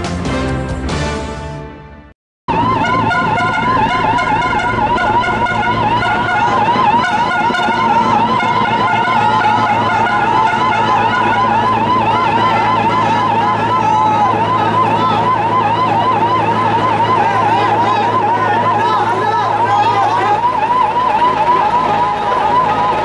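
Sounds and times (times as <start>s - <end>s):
electronic siren warbling: 2.5s - 23.0s
helicopter drone: 2.5s - 23.0s.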